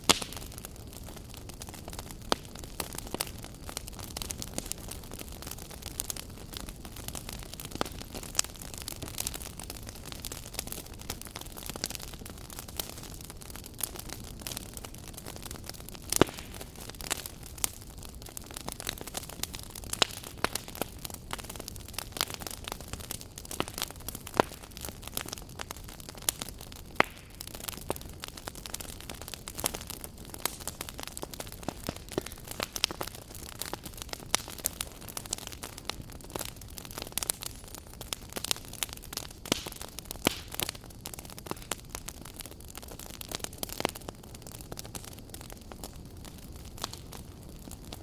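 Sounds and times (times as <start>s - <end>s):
fire rumbling: 0.0s - 48.0s
wood fire crackling and popping: 0.0s - 48.0s.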